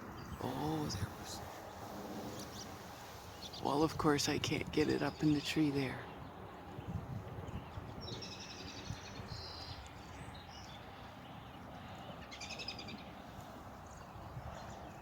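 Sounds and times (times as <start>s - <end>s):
low steady background rumble: 0.0s - 15.0s
songbirds singing: 0.0s - 15.0s.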